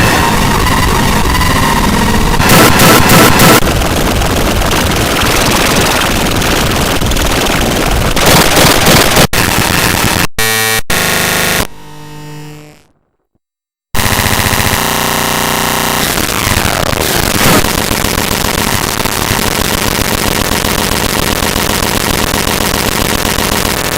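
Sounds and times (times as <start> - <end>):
harsh distorted electronic noise: 0.0 - 13.3, 14.0 - 23.9.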